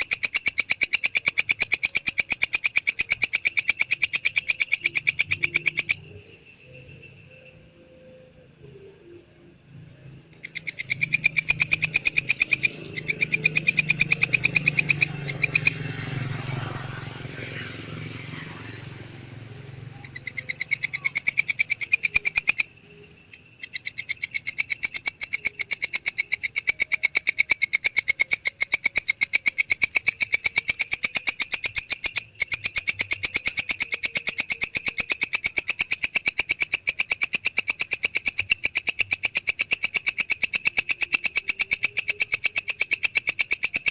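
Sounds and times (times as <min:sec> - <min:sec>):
animal call high clicking pulses: 0:00.0 - 0:06.1, 0:10.3 - 0:22.7, 0:23.3 - 0:43.9.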